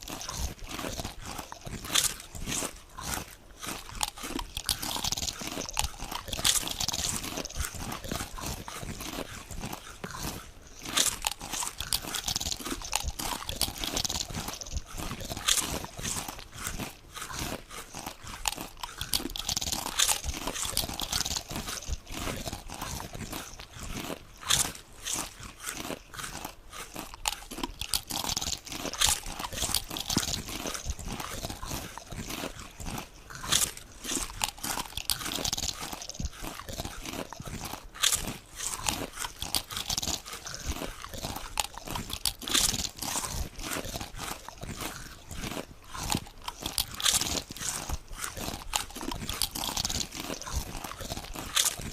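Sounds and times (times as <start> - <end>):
potato chips crunching: 0.0 - 51.9.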